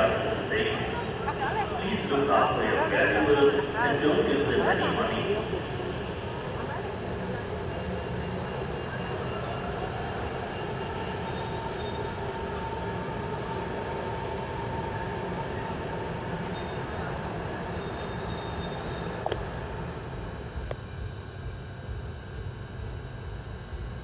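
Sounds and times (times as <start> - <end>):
train coaches rumbling: 0.0 - 20.1.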